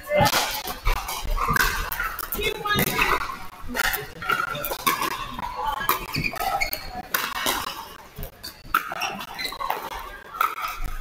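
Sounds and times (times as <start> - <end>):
paddles hitting plastic ball: 0.0 - 11.0.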